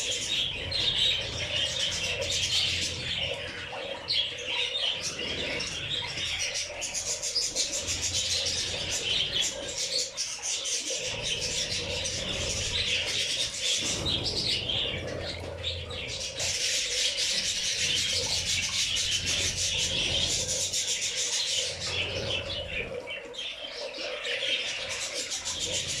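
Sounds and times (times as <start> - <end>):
small birds chirping and chattering: 0.0 - 26.0.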